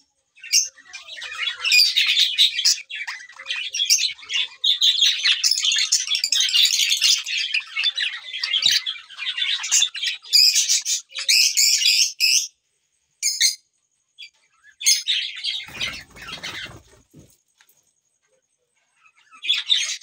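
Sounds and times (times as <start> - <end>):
lovebirds chattering: 0.0 - 12.6, 13.2 - 20.0.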